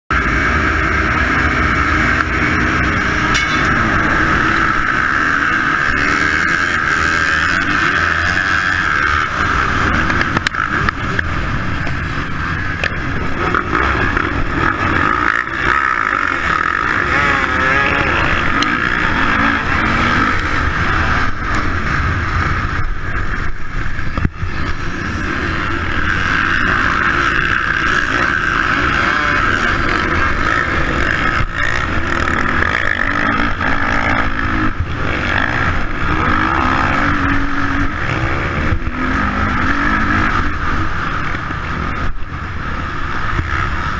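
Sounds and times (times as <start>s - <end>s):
motocross bike engine revving: 0.1s - 43.9s
other dirt bikes running: 0.1s - 43.9s.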